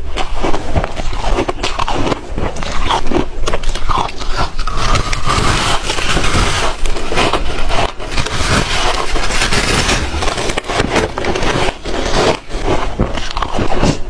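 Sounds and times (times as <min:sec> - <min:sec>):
ice being crunched by teeth: 0:00.0 - 0:14.0.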